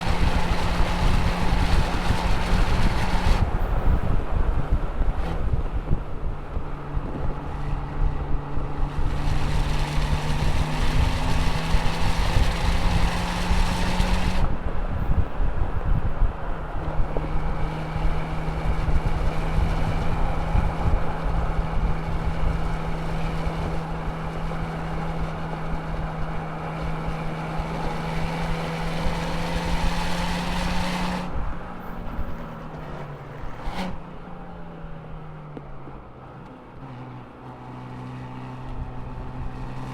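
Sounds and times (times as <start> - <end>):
car engine running hard: 0.0 - 39.9
road and wind noise: 0.0 - 39.9.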